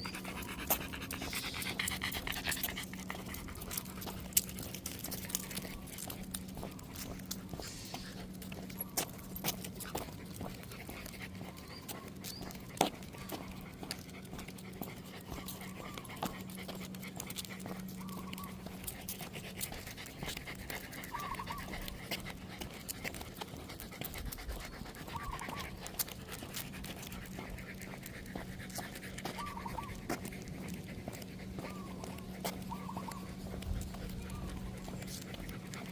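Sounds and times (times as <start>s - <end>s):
small clicks and ticks: 0.0s - 7.6s, 8.2s - 35.9s
dog panting: 0.0s - 35.9s.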